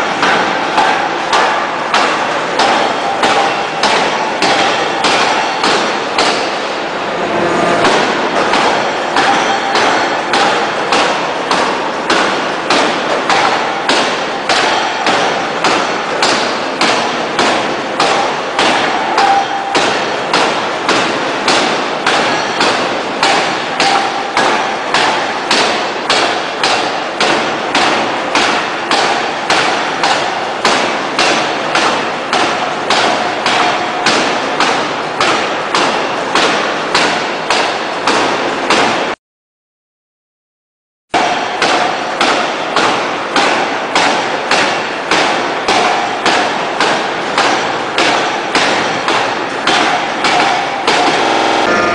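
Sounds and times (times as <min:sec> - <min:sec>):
forging hammer striking metal: 0:00.0 - 0:39.2, 0:41.1 - 0:51.9.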